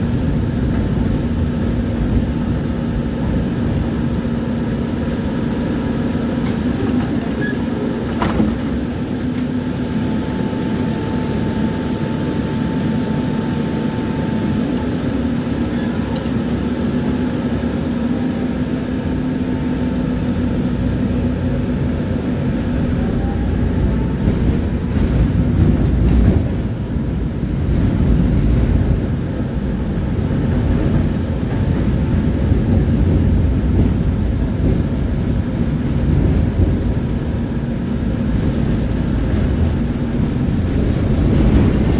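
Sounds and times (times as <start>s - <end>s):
tram wheels rumbling on rail: 0.0s - 41.9s.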